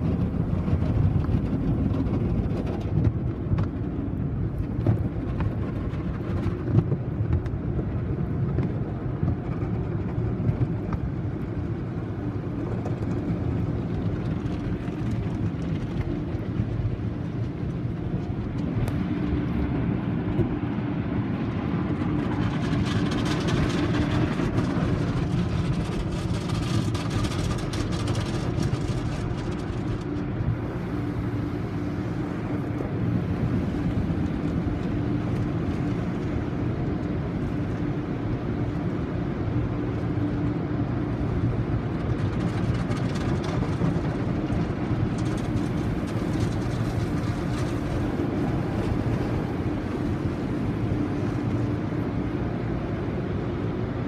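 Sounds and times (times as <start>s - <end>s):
water jets spraying on car: 0.0s - 53.1s
car wash machinery humming: 0.0s - 54.0s.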